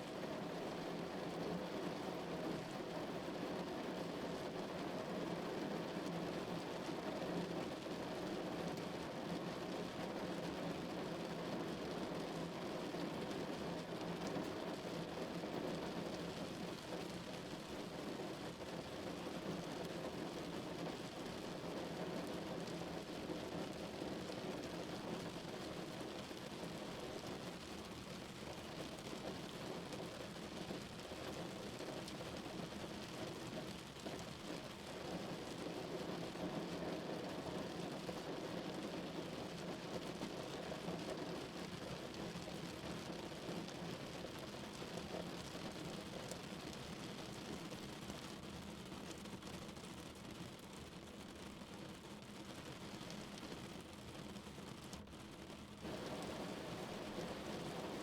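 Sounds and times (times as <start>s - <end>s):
rain on car roof: 0.1s - 58.0s.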